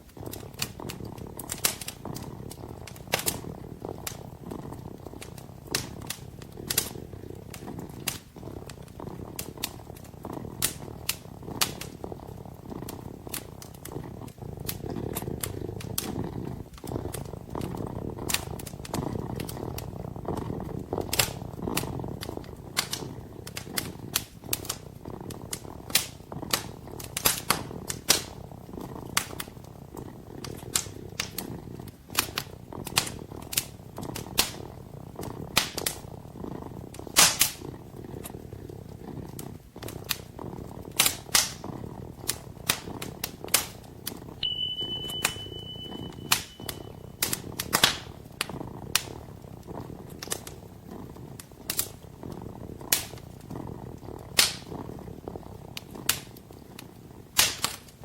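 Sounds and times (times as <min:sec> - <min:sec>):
kitten purring: 0:00.0 - 0:58.0
wood fire crackling: 0:00.0 - 0:58.0.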